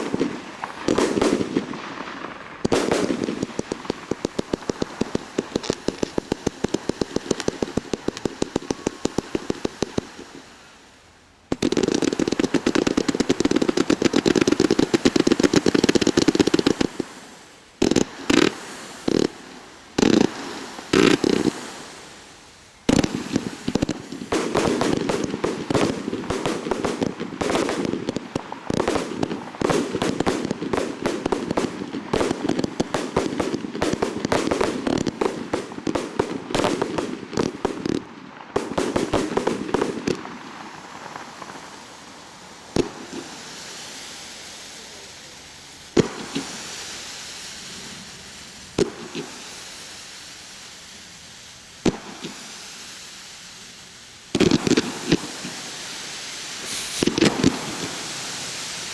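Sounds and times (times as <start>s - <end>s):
faint firework hiss: 0.0s - 58.9s
firework bangs: 0.0s - 58.9s
rapid firework reports: 0.0s - 58.9s.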